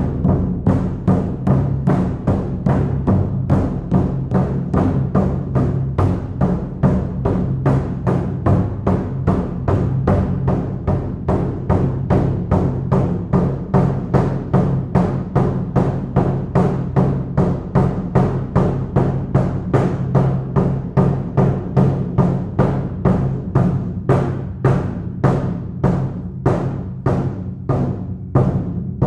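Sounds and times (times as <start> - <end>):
frame drum beating: 0.0 - 29.0.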